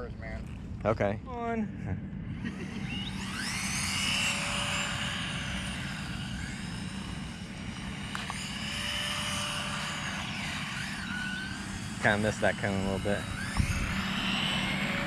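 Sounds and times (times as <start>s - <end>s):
electric rc car motors whining: 0.0s - 1.0s, 2.0s - 15.0s.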